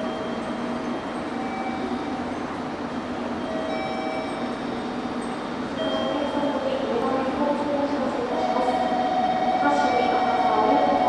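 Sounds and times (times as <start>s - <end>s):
train noise: 0.0s - 11.0s.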